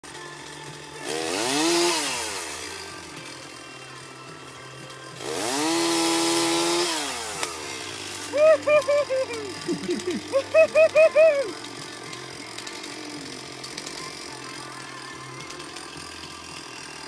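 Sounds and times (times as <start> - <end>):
chainsaw engine idling and revving: 0.0 - 17.0.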